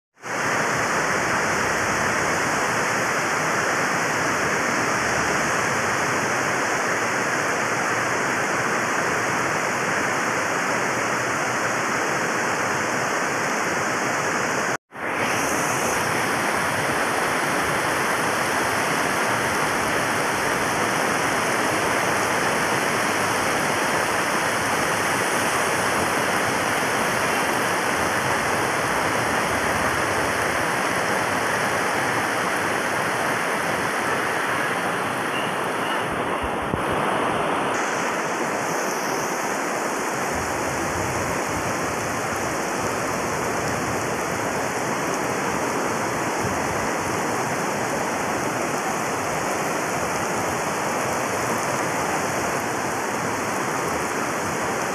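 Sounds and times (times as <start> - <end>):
heavy rain: 0.2 - 54.9
running water: 0.2 - 54.9.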